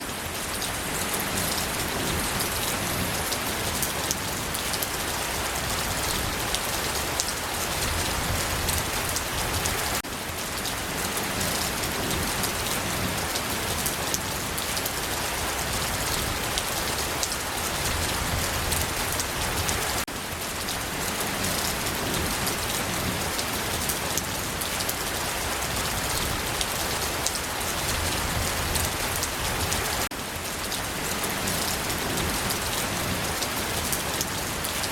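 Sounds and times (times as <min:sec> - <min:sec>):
rain falling on a surface: 0:00.0 - 0:34.9.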